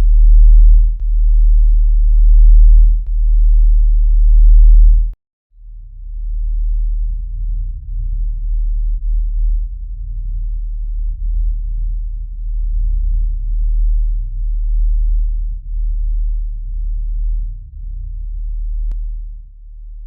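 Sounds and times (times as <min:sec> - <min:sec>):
deep low rumble drone: 0:00.0 - 0:20.0.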